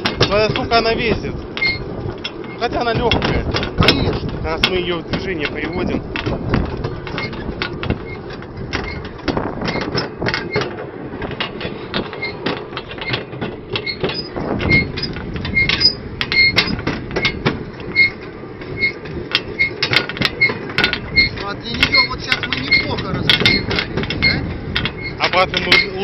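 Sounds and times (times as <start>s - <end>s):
clicks and clanks of rails: 0.0s - 26.0s
steel wheels rumbling on rails: 0.0s - 26.0s
high squeaks: 0.3s - 6.0s, 7.1s - 10.7s, 12.0s - 26.0s.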